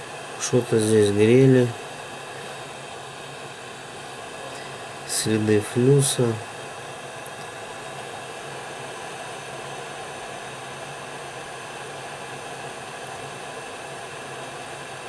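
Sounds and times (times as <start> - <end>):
fan whirring: 0.0 - 15.0.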